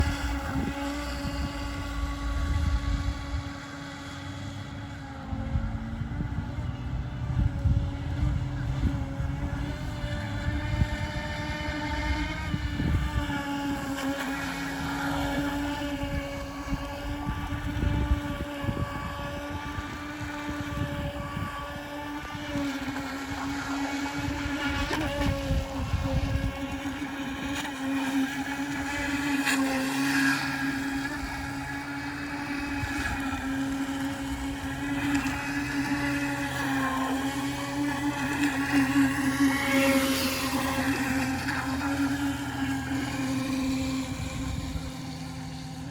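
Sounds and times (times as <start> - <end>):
electric boat motor whining: 0.0 - 45.9
wind rumble on microphone: 0.0 - 45.9.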